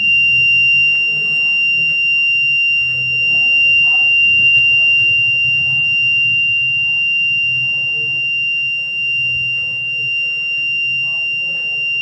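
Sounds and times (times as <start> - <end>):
fire alarm buzzer tone: 0.0 - 12.0.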